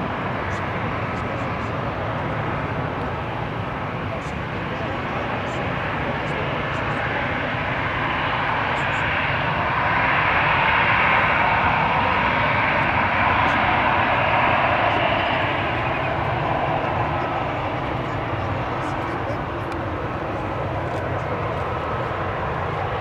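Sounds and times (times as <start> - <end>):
jet engines hissing and whining: 0.0 - 23.0.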